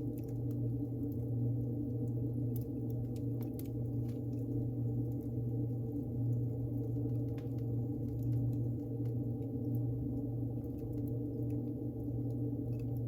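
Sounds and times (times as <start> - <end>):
low hum: 0.0 - 13.0
wood fire crackling and popping: 0.0 - 13.0.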